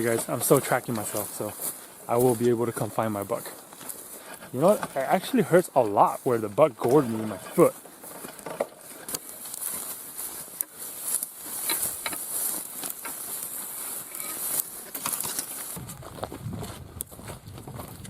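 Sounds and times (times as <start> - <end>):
footsteps crunching on dry ground: 0.0 - 18.0.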